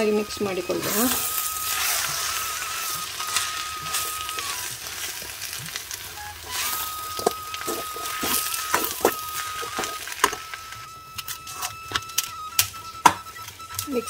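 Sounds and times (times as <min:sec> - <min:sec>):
food sizzling in a pan: 0:00.0 - 0:14.0
thin high tone: 0:00.0 - 0:14.0.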